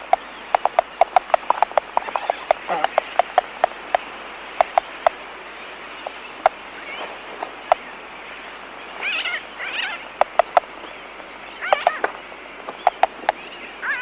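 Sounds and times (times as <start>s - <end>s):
albatross bill clacking: 0.0s - 5.2s, 6.0s - 7.9s, 9.0s - 11.0s, 11.6s - 14.0s
chattering bird calls: 0.0s - 14.0s
distant bird colony hiss: 0.0s - 14.0s.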